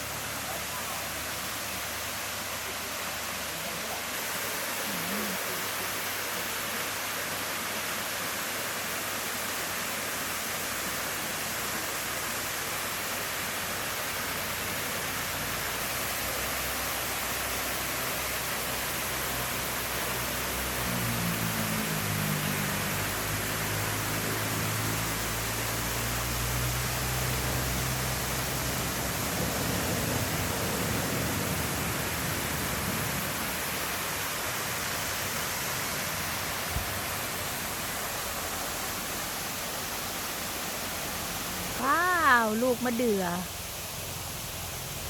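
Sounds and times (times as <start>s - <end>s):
waterfall splashing: 0.0s - 45.0s.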